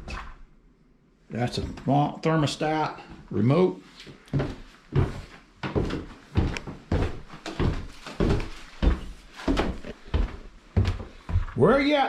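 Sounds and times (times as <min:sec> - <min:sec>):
footsteps walking indoors: 0:01.4 - 0:12.0.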